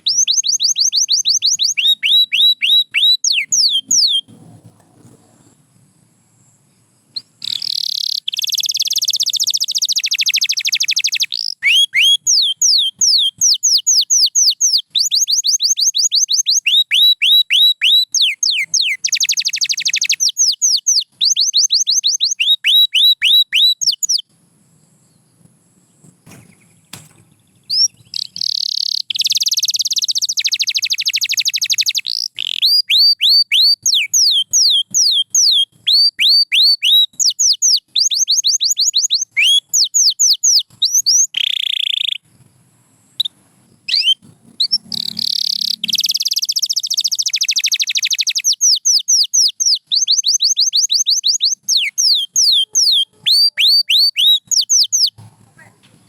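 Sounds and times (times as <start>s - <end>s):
canary singing: 0.0s - 5.6s, 7.0s - 24.3s, 25.1s - 42.3s, 43.2s - 56.0s.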